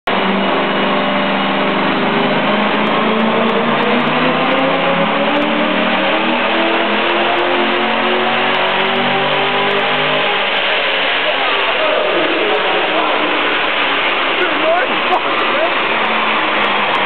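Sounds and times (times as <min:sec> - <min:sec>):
engine running hard: 0:00.0 - 0:17.0.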